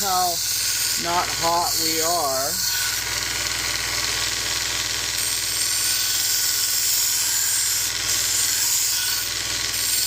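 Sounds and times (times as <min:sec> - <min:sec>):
belt grinder motor hum: 0:00.0 - 0:10.0
knife grinding on belt grinder: 0:00.0 - 0:10.0.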